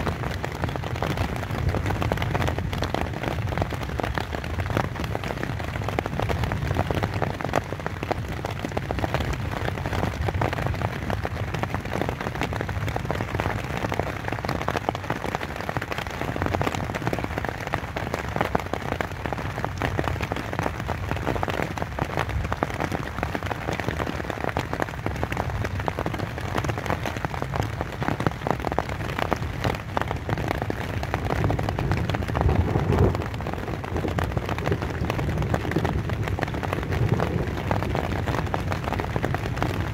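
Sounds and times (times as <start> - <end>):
rain pattering on tent fabric: 0.0 - 39.9.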